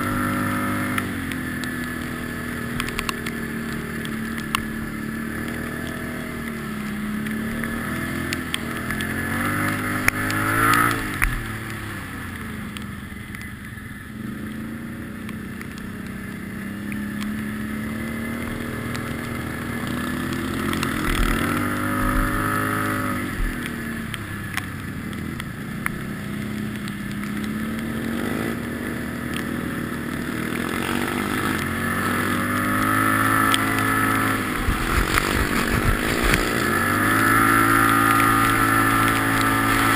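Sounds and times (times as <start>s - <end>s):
quad bike engine revving: 0.0s - 13.0s, 14.1s - 39.9s.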